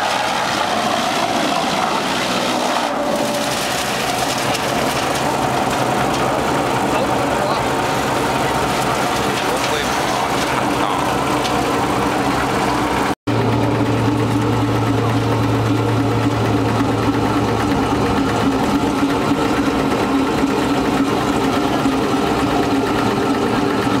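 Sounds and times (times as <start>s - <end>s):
wood chipper humming: 0.0s - 24.0s.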